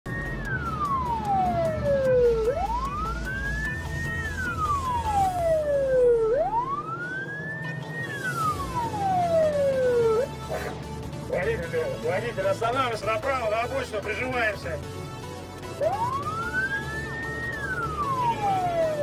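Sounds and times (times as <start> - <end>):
police siren wailing: 0.0 - 10.7, 11.9 - 19.0
car engine and road rumble: 0.0 - 19.0.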